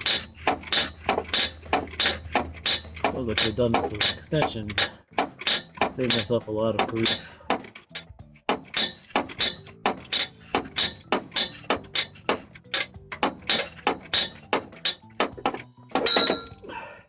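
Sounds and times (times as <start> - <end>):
metal scrape: 0.0 - 16.6
socket ratchet clicking: 0.0 - 16.6.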